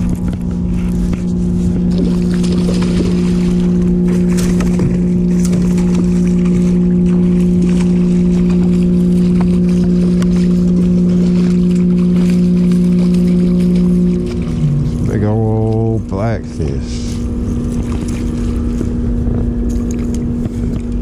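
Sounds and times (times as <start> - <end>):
electric trolling motor hum: 0.0 - 21.0.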